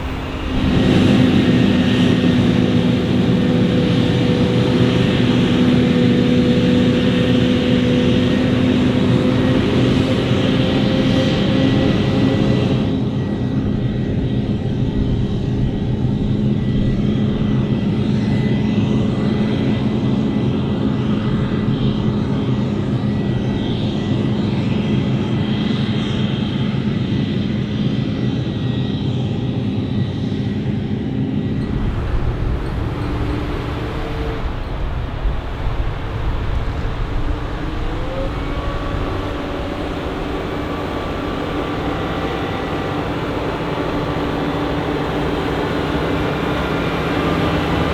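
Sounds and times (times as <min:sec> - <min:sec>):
diesel machinery engine droning: 0:00.0 - 0:26.5, 0:28.7 - 0:47.9.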